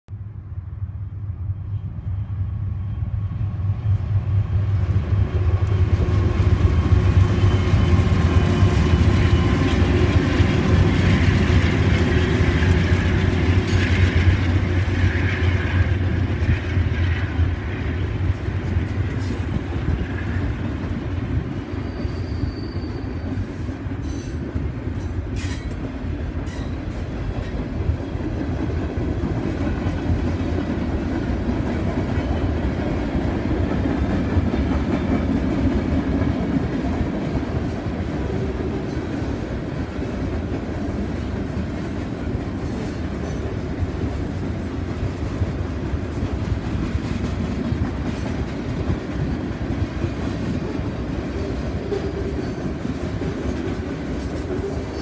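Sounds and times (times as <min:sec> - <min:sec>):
diesel locomotive engine rumble: 0:00.1 - 0:55.0.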